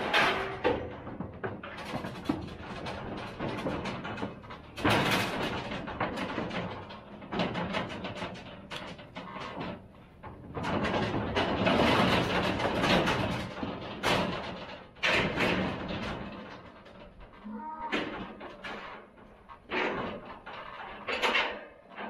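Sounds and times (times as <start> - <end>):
metal trailer and gates clattering: 0.0 - 22.0.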